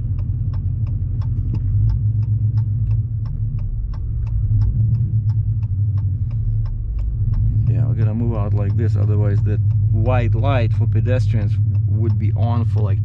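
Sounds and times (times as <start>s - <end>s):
car engine idling: 0.0s - 13.0s
light ticking: 0.0s - 13.0s.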